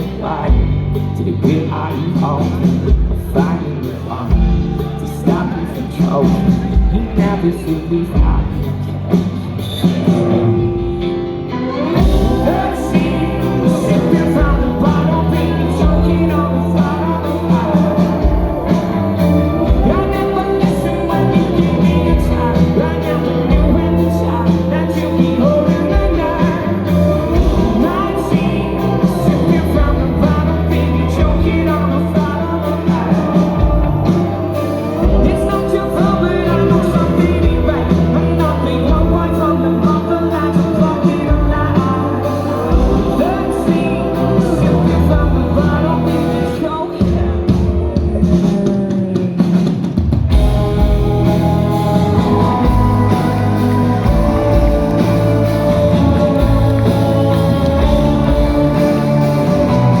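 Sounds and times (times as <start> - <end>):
person singing: 0.0 - 60.0
rock band playing live: 0.0 - 60.0.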